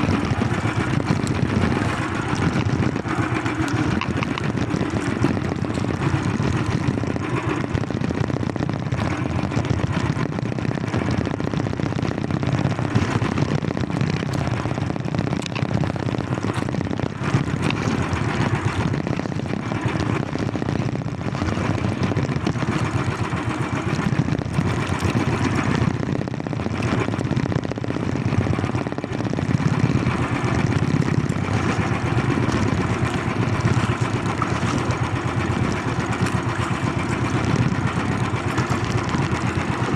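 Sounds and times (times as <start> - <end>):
motor engine running steadily: 0.0 - 39.9.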